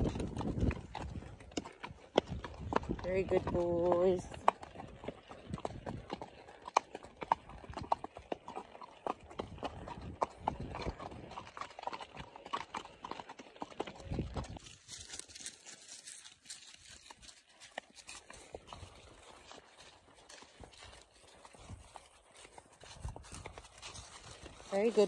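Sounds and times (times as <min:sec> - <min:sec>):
hooves clip-clopping on dirt: 0:00.0 - 0:25.0.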